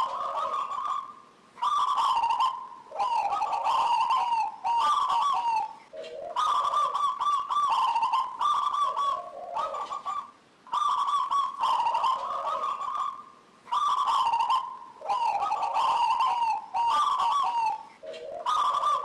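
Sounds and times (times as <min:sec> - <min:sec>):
dove cooing song: 0:00.0 - 0:19.0.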